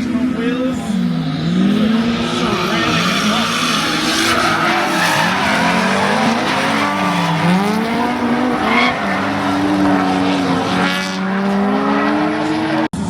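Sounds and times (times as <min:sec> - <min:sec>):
car engines revving: 0:00.0 - 0:13.0
tyres squealing and skidding: 0:00.6 - 0:12.7.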